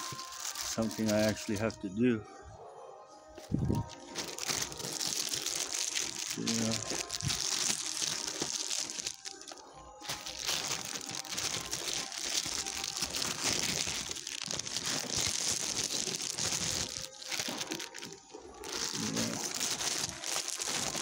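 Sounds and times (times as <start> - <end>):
paper crinkling and rustling: 0.0 - 1.8, 3.4 - 21.0.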